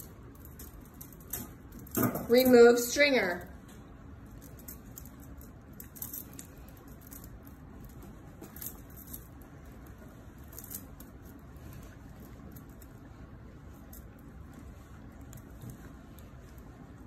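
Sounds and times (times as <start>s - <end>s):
low room noise: 0.0s - 17.0s.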